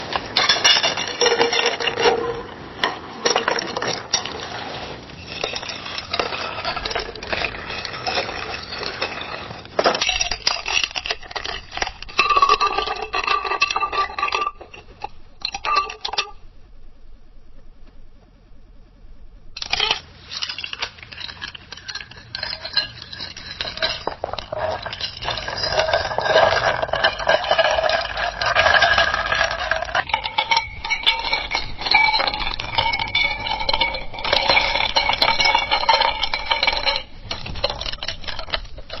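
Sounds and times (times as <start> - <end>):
ice cubes clinking against glass: 0.0 - 2.4, 5.2 - 16.3, 19.6 - 39.0.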